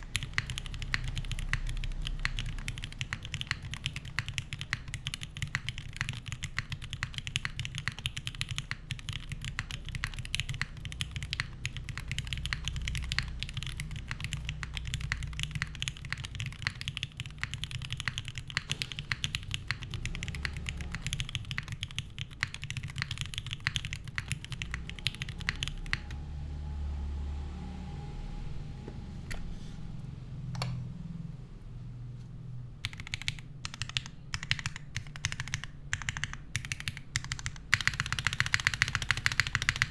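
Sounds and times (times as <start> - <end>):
typing on a keyboard: 0.0 - 26.2, 32.8 - 39.9.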